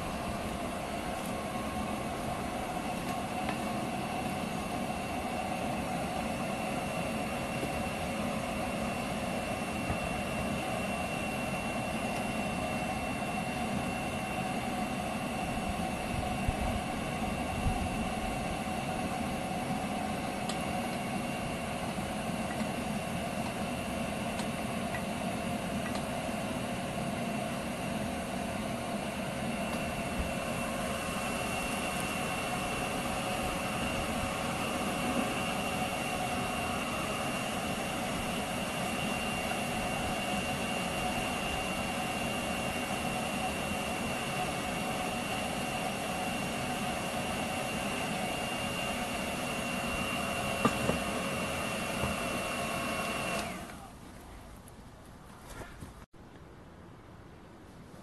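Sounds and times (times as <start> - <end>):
electric blower whirring: 0.0 - 54.0.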